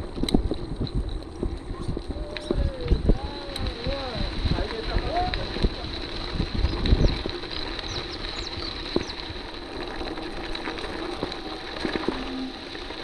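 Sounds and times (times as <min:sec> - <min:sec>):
bike rattling over bumps: 0:00.0 - 0:13.0
bike tyres crunching on dirt: 0:00.0 - 0:13.0.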